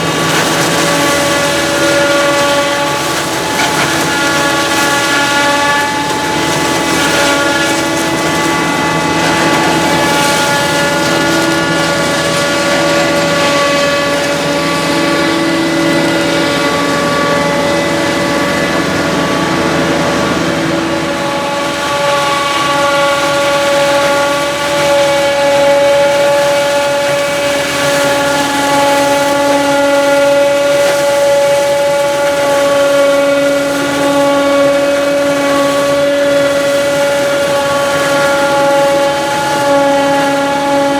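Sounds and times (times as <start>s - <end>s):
diesel machinery whining: 0.0s - 40.9s.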